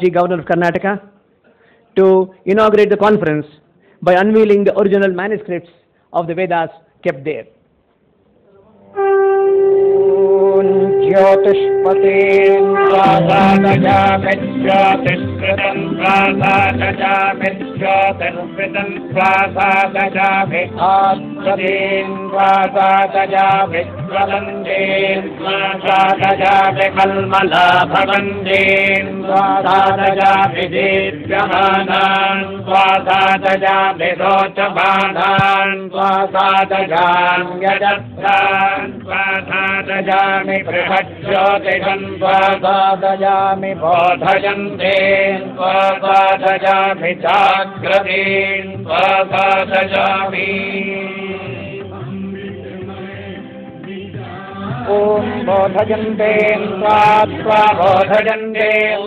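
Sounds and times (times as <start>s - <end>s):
devotional chant-like melody: 8.5s - 59.0s.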